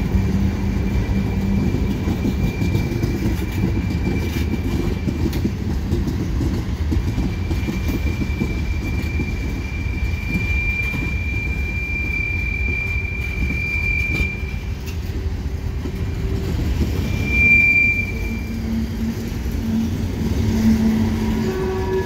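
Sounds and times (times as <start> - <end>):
train wheels rumbling on rail: 0.0 - 22.0
high-pitched wheel squeal: 0.5 - 5.5, 7.1 - 15.2, 16.8 - 22.0.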